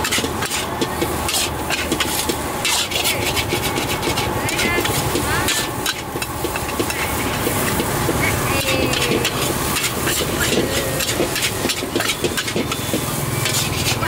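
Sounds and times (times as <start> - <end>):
frying hiss: 0.0 - 14.0
metal spatula scraping wok: 0.0 - 14.0.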